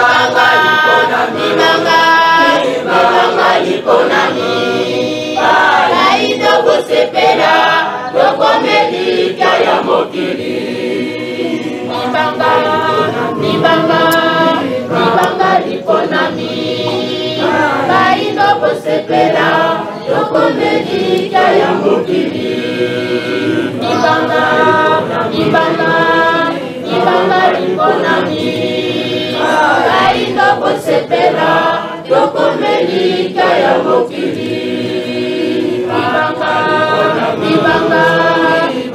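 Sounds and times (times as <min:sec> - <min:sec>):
group singing a cappella: 0:00.0 - 0:38.9.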